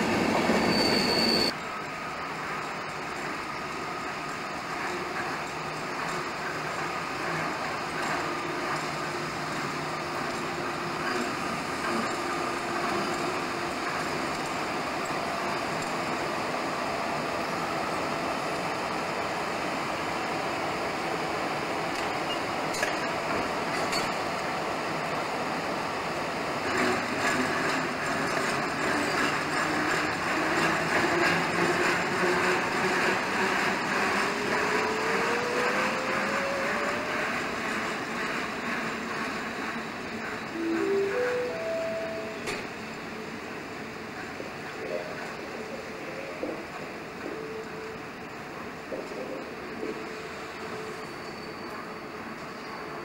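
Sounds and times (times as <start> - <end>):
wheels clicking on rails: 0.0 - 16.7, 21.7 - 25.2, 26.0 - 53.0
train rumbling: 0.0 - 53.0.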